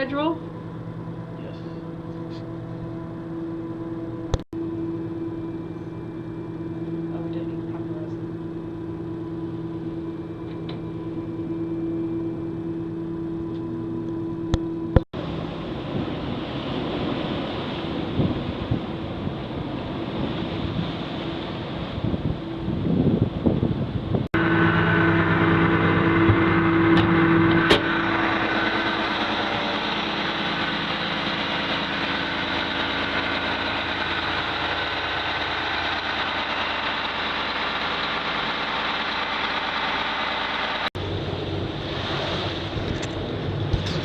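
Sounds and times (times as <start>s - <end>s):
ship diesel engines droning: 0.0s - 44.0s.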